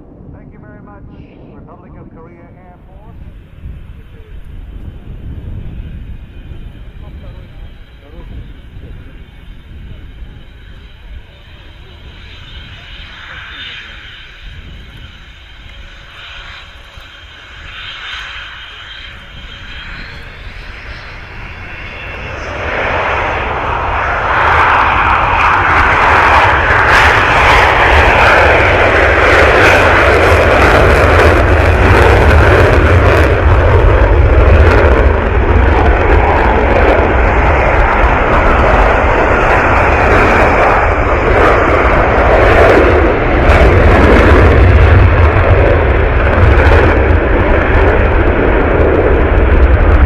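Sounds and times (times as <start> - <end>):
aircraft engine rushing and rumbling: 0.0 - 50.0.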